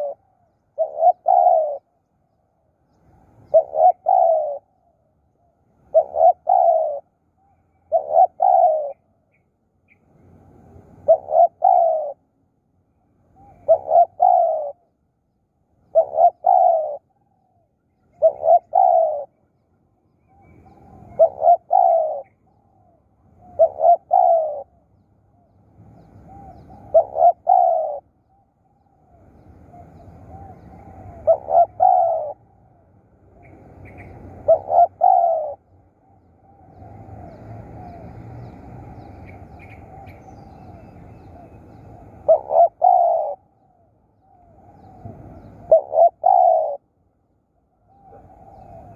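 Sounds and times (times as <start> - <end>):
dove cooing: 0.0 - 2.0, 3.1 - 5.0, 5.8 - 9.4, 10.3 - 12.3, 13.2 - 14.9, 15.8 - 19.4, 20.2 - 25.0, 25.9 - 47.0, 47.6 - 48.9.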